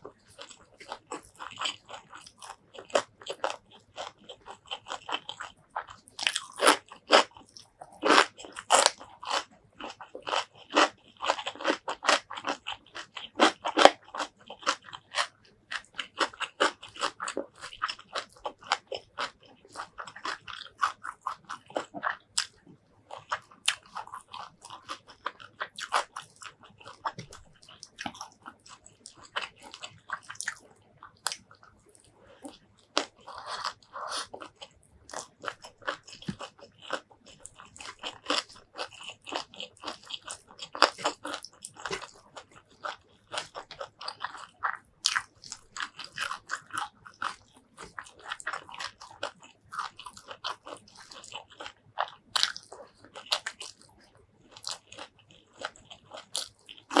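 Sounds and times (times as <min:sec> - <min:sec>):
soft chewing: 0:00.0 - 0:57.0
crunching raw vegetable: 0:00.1 - 0:57.0.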